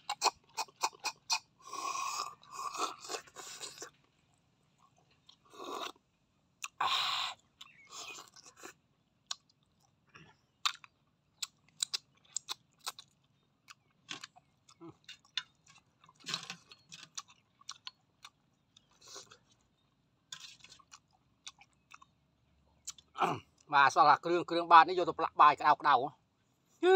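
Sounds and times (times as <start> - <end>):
wet chewing and mouth clicks: 0.0 - 6.0, 6.6 - 23.7.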